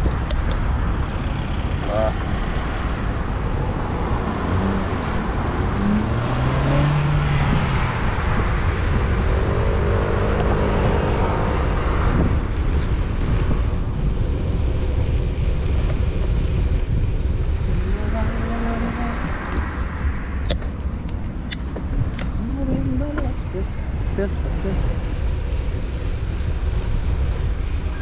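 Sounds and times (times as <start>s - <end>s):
car traffic passing: 0.0s - 28.0s
vehicle engine hum: 0.0s - 28.0s
wind buffeting microphone: 0.0s - 28.0s.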